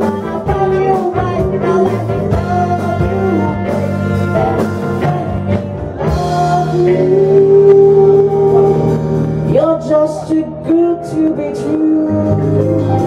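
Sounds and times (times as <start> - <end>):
guitar and bass: 0.0 - 13.0
man singing with band: 0.0 - 13.0.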